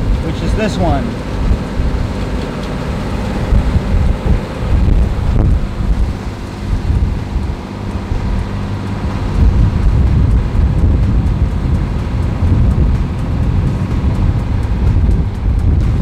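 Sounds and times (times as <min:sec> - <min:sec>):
boat engine running: 0:00.0 - 0:16.0
wind buffeting microphone: 0:00.0 - 0:16.0.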